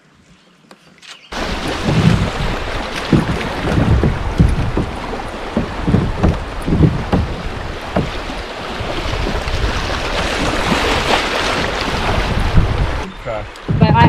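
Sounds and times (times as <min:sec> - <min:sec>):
water moving around kayak hull: 0:00.1 - 0:14.0
wind buffeting microphone: 0:01.3 - 0:14.0
low thumps: 0:01.4 - 0:10.9, 0:12.0 - 0:14.0.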